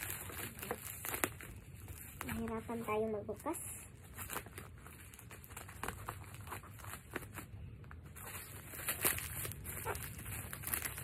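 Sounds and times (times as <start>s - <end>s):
bubble wrap and tape crackling: 0.0s - 11.0s.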